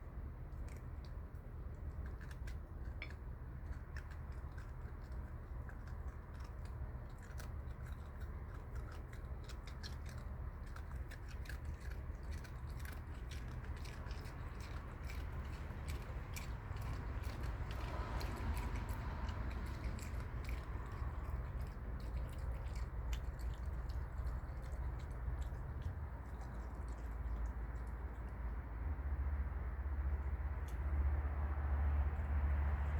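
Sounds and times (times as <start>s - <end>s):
animal crunching cookies: 0.0s - 32.9s
steady low hum: 0.0s - 32.9s.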